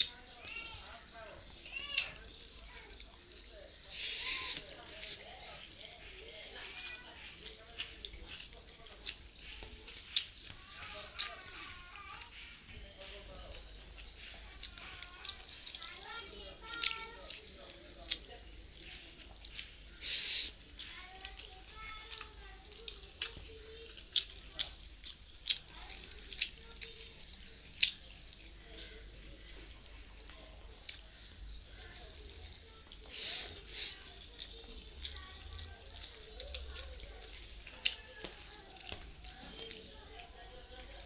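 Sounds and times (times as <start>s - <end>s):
wet chewing and lip smacking: 1.9s - 29.4s, 30.2s - 40.0s.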